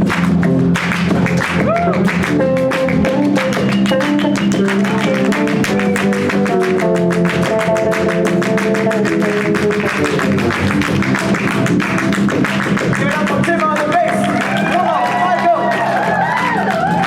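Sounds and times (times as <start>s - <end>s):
live band playing instrumental: 0.9s - 15.3s.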